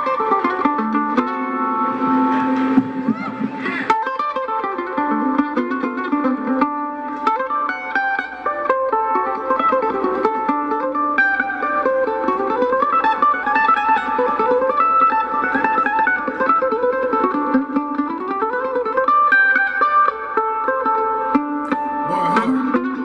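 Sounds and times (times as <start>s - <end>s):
country mandolin picking: 0.0s - 23.0s.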